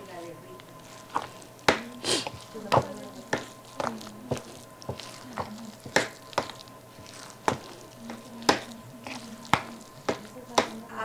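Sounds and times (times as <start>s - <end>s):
spoon stirring thick dough: 0.0s - 10.9s.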